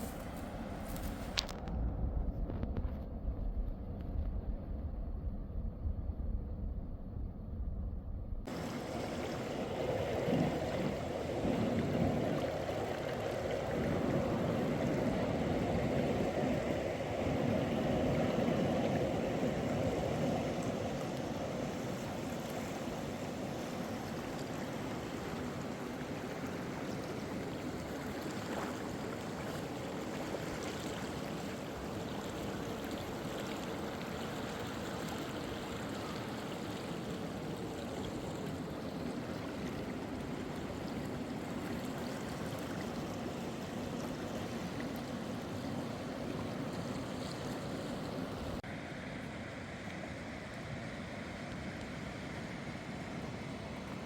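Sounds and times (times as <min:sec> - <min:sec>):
stream water rushing: 0:08.5 - 0:54.0.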